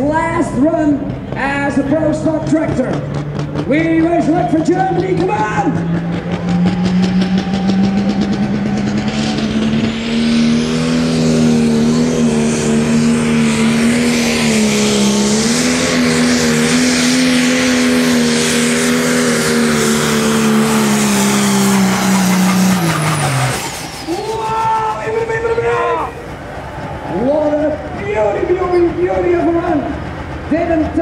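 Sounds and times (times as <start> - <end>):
diesel engine at full throttle: 0.0 - 31.0
high turbo whine: 0.0 - 31.0.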